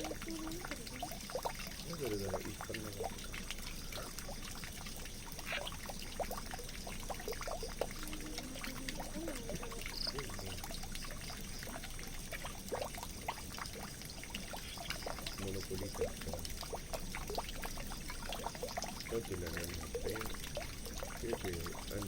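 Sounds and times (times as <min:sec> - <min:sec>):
water pouring into a drain: 0:00.0 - 0:22.0.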